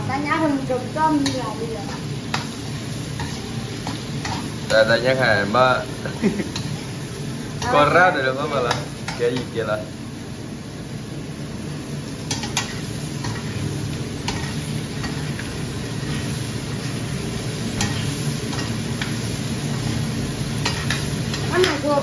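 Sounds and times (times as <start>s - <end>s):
vegetables sizzling in a wok: 0.0s - 22.0s.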